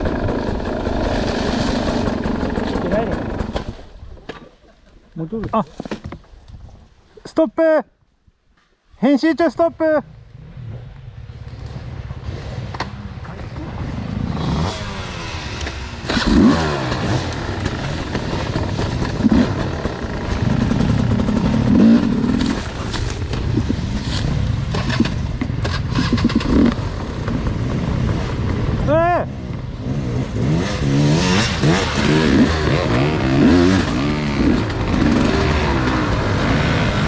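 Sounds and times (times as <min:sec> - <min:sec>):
dirt bike engine revving: 0:00.0 - 0:04.0, 0:10.1 - 0:37.0.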